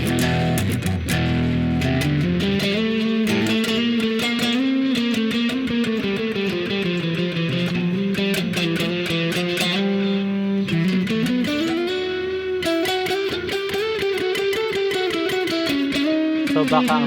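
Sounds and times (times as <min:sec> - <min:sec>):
overdriven electric guitar: 0:00.0 - 0:17.0.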